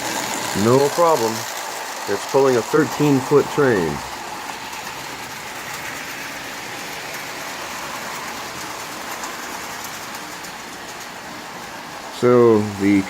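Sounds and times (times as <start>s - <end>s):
toy train whirring clatter on rails: 0.0s - 13.0s.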